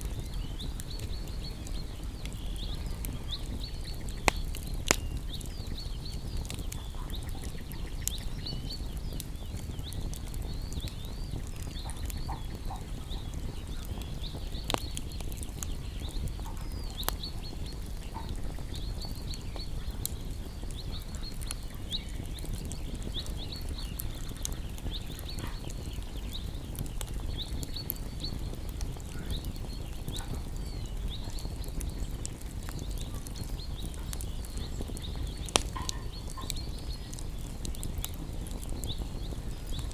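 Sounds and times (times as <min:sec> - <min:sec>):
bonfire crackling and popping: 0:00.0 - 0:39.9
small birds chirping: 0:00.0 - 0:39.9.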